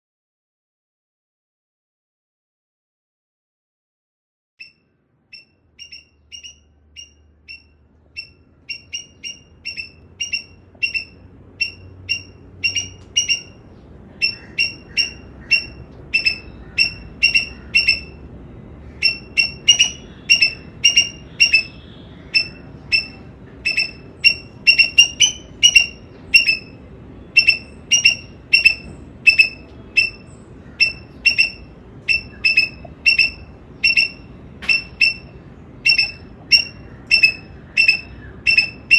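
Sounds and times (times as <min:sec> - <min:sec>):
squirrel barking: 0:04.6 - 0:18.3, 0:18.9 - 0:38.9.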